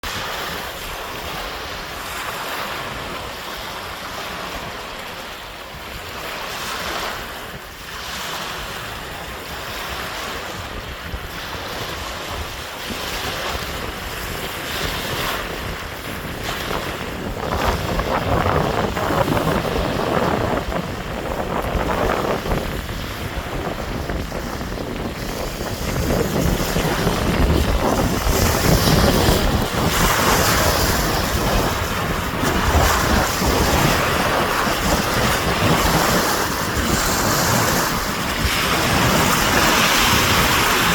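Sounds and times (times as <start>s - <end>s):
sea waves breaking on shore: 0.0s - 40.9s
wind buffeting microphone: 0.0s - 40.9s.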